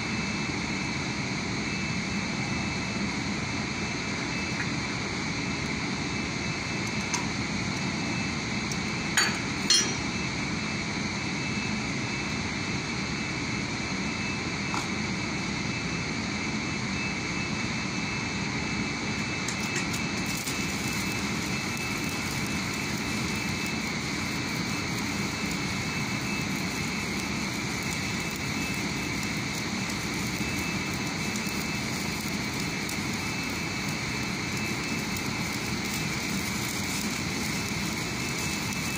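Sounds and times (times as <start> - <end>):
steady mechanical drone: 0.0 - 38.9
welding arc hiss and crackle: 0.0 - 38.9.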